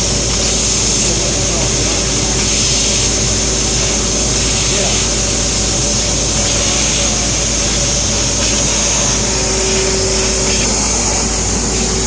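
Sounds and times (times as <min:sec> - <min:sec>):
laser cutter hiss and whir: 0:00.0 - 0:12.0
steady whine: 0:00.0 - 0:12.0.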